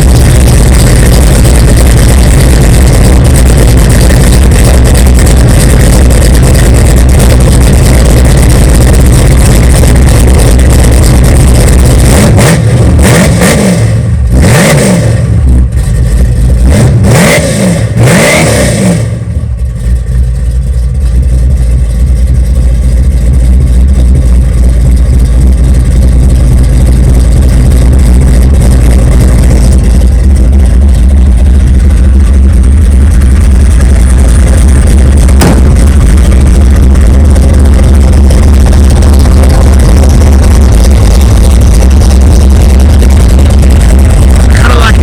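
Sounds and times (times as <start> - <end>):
loud car engine revving and idling: 0.0 - 45.0.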